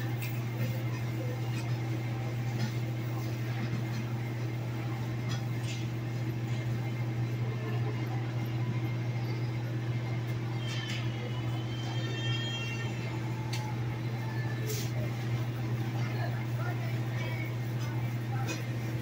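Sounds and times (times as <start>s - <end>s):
oven and exhaust hum: 0.0s - 19.0s.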